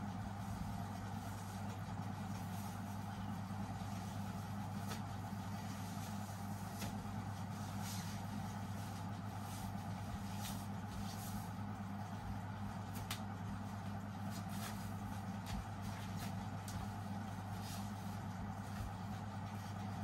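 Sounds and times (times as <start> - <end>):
low hum with faint hiss: 0.0 - 20.0.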